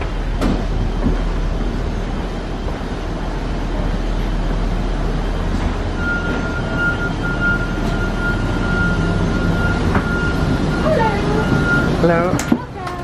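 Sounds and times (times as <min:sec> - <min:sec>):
high whine: 0:00.0 - 0:12.5
machinery rumble: 0:00.0 - 0:13.0.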